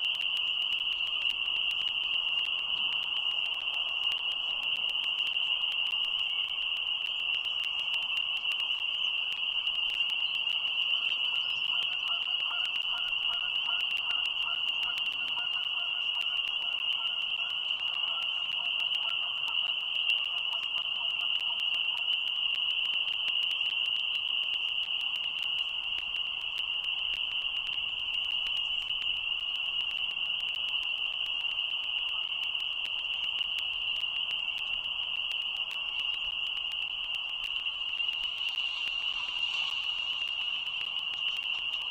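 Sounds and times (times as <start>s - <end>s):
high-pitched ringing drone: 0.0s - 41.9s.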